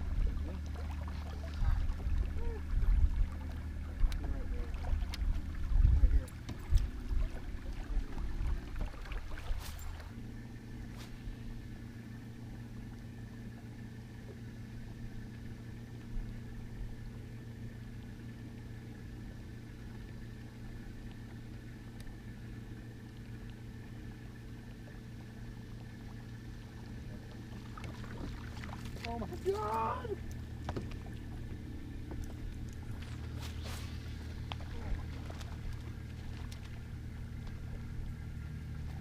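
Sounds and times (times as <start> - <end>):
motor hum: 0.0 - 39.0.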